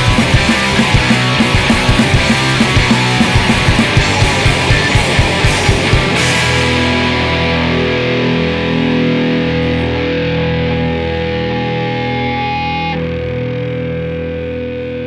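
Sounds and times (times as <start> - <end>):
distorted electric guitar chord: 0.0 - 15.0
high held tone: 0.0 - 15.0.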